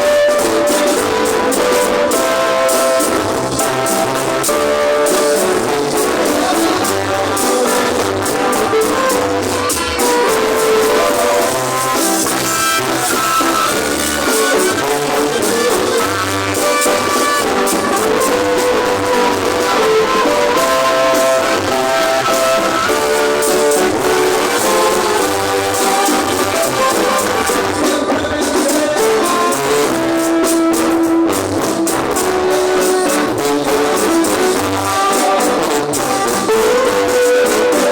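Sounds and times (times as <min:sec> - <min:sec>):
brass horns playing melody: 0:00.0 - 0:37.9
drums: 0:00.0 - 0:37.9.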